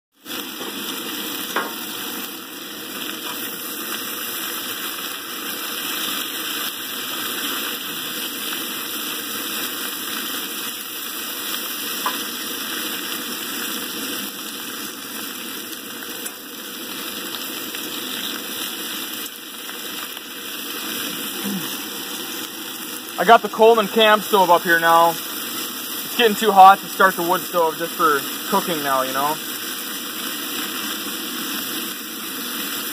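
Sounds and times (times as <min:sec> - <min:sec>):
vegetables sizzling in a skillet: 0:00.2 - 0:32.9.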